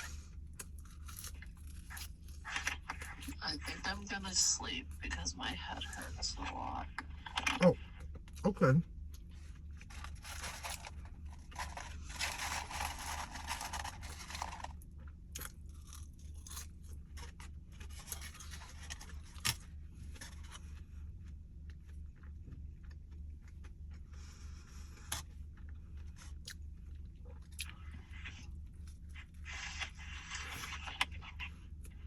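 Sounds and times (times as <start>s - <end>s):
crunching and chewing food: 0.0s - 4.4s, 5.2s - 32.0s.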